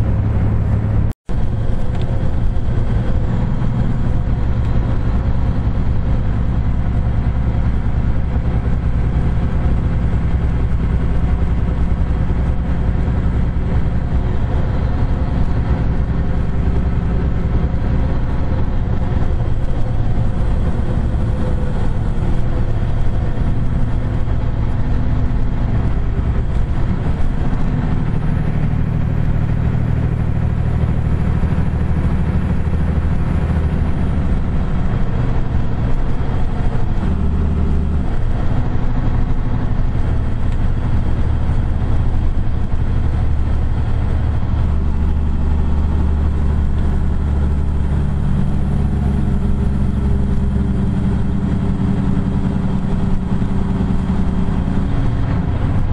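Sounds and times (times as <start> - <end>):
truck engine and road noise: 0.0 - 55.9.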